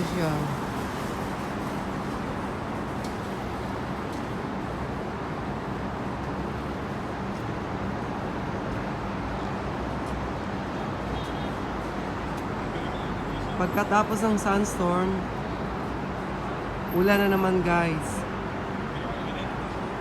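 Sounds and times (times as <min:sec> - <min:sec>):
road traffic hiss: 0:00.0 - 0:20.0.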